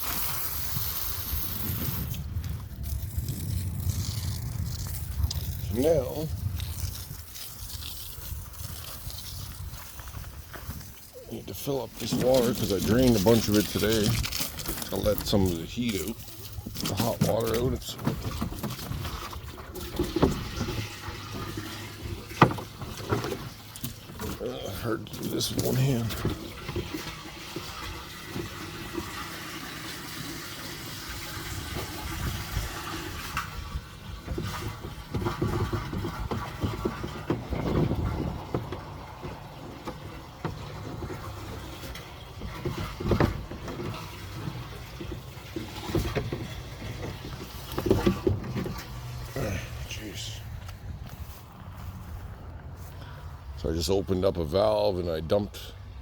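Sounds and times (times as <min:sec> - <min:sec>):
water running into container: 0:00.0 - 0:52.2.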